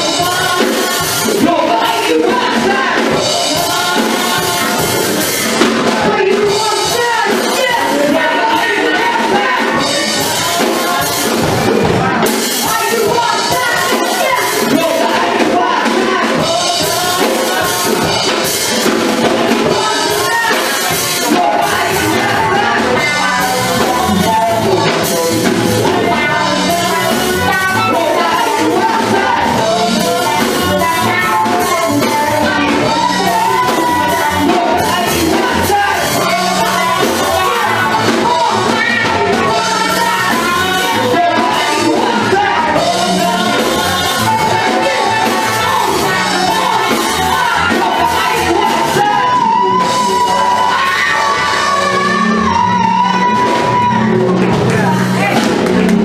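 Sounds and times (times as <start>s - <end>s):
drum kit: 0.0s - 56.0s
electric bass: 0.0s - 56.0s
electric guitar: 0.0s - 56.0s
people singing into microphones: 0.0s - 56.0s.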